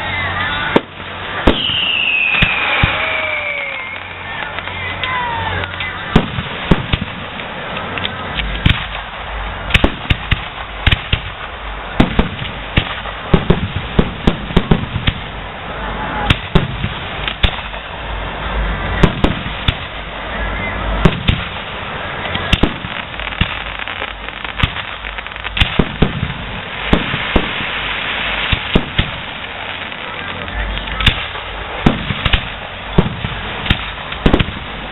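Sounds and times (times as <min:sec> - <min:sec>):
crowd noise: 0:00.0 - 0:34.9
fireworks bursting in sharp bangs: 0:00.0 - 0:34.9.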